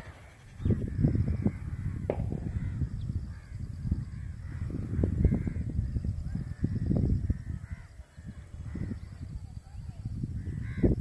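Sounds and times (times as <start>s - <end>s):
birds calling: 0.0s - 11.0s
wind rumble on microphone: 0.0s - 11.0s.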